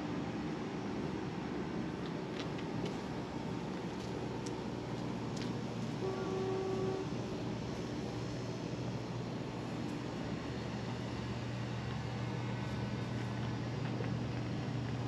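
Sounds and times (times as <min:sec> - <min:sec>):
low mechanical hum: 0:00.0 - 0:15.0
outdoor background noise: 0:00.0 - 0:15.0.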